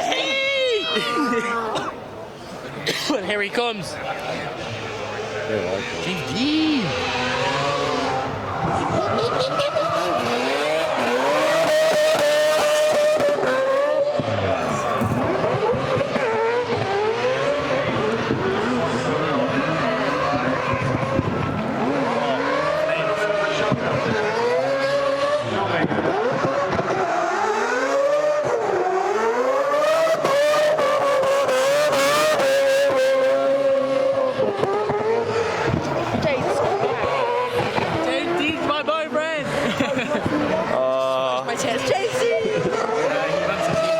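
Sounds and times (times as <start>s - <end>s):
car engine revving: 3.9s - 43.9s.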